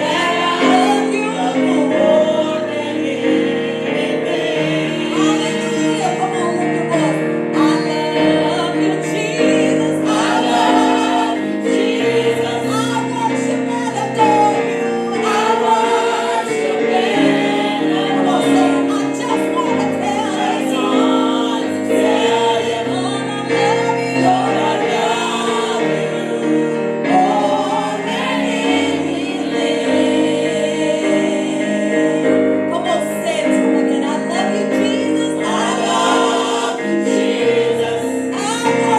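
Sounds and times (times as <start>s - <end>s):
choir singing gospel: 0.0s - 38.9s
instrumental accompaniment: 0.0s - 38.9s.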